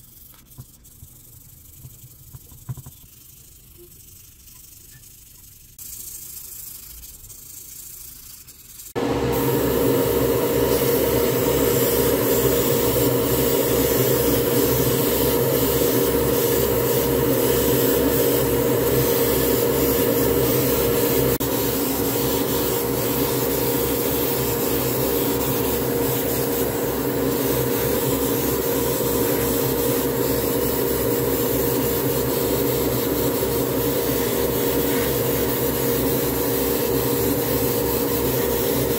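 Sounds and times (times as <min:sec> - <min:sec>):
air compressor pulsing hum: 0:00.0 - 0:38.9
airbrush spraying hiss: 0:00.0 - 0:38.9
sandpaper rubbing: 0:00.0 - 0:38.9.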